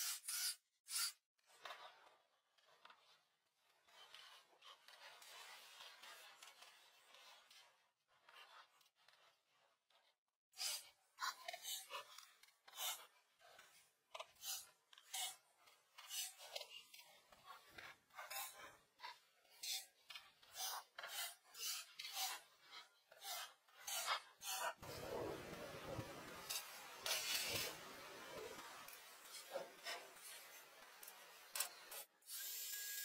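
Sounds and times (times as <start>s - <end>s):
pencil scratching on paper: 3.9s - 32.1s.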